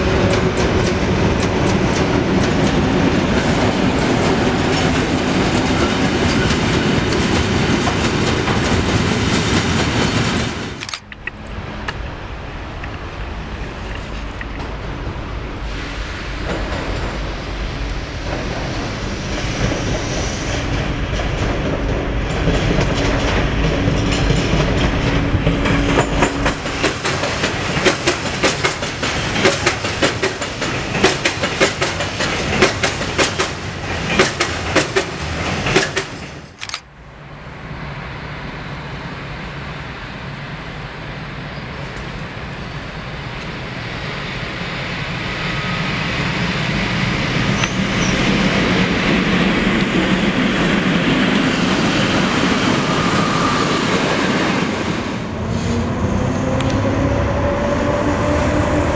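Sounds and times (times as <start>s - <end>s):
train rumble: 0.0s - 58.9s.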